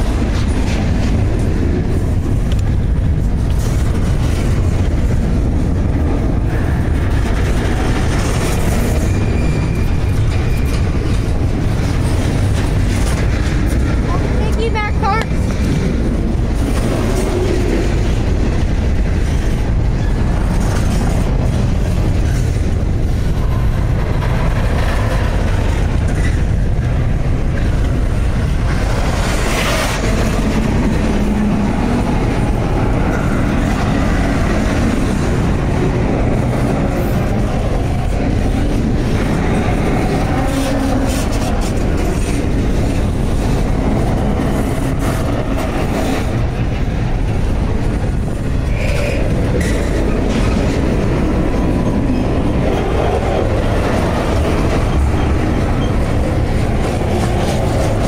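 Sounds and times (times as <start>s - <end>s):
freight train wheels rumbling on rail: 0.0s - 58.0s
rail clicks: 0.0s - 58.0s.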